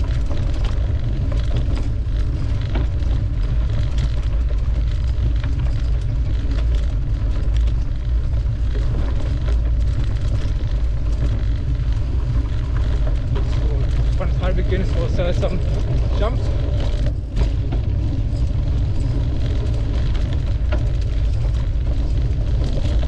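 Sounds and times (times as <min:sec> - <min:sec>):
bike rattles and knocks: 0:00.0 - 0:23.0
wind noise on microphone: 0:00.0 - 0:23.0.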